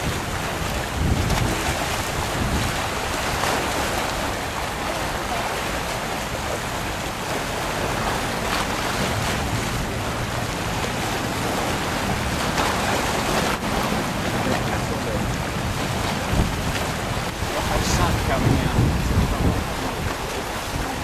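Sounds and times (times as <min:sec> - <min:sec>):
choppy sea waves: 0:00.0 - 0:21.0
wind buffeting microphone: 0:00.0 - 0:21.0.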